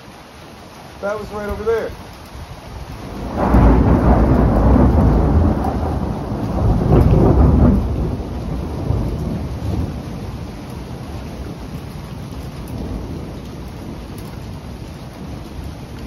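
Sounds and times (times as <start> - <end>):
steady rain: 0.0 - 16.0
thunder rumbling: 2.7 - 16.0.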